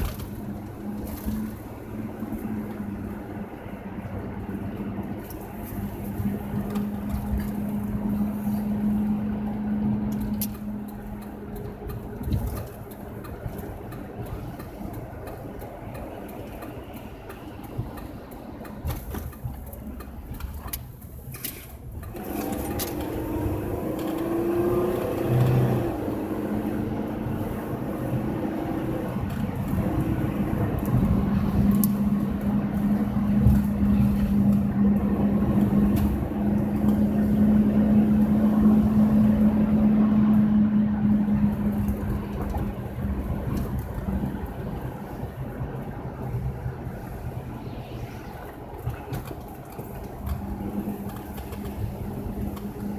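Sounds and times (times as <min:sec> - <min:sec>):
car engine from inside cabin: 0:00.0 - 0:52.9.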